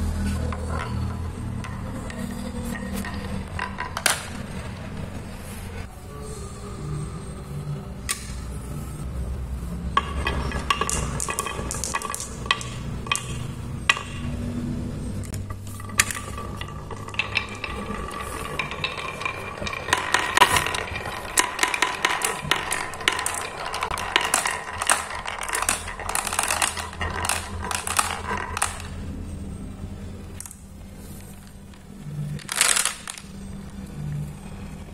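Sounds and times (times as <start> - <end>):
marbles rolling rumble: 0.0 - 5.9, 8.1 - 34.9
marbles clattering: 0.3 - 5.7, 8.0 - 34.8
marbles clicking on wooden pegs: 0.4 - 5.4, 8.0 - 8.6, 9.6 - 34.8.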